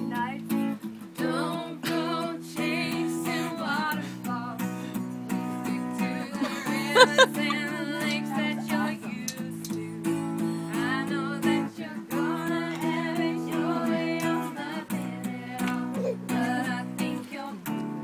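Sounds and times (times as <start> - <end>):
acoustic guitar strumming: 0.0 - 18.0
voices singing: 1.2 - 18.0.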